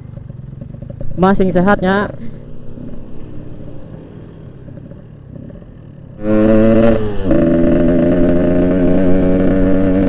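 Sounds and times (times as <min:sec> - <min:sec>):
two-stroke motorcycle engine running: 0:00.0 - 0:10.0.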